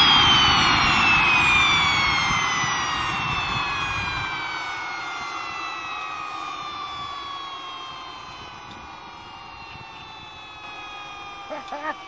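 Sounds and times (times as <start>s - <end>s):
jet engine winding down: 0.0s - 12.0s.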